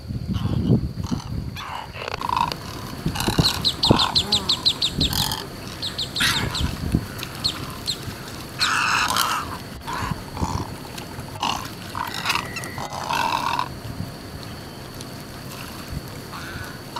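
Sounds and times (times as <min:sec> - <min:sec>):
egrets giving hoarse grunting croaks: 0:00.3 - 0:14.0, 0:14.7 - 0:16.9.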